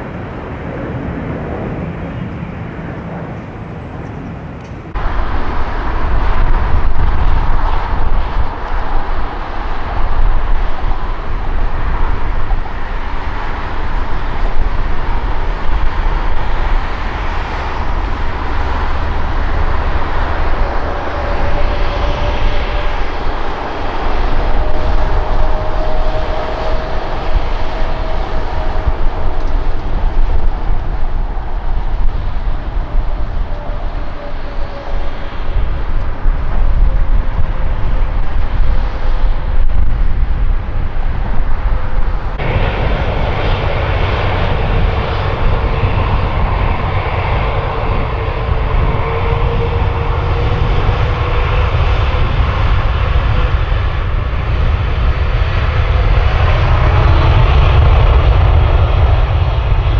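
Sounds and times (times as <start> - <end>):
jet engines rumbling and whining: 0.0 - 59.9.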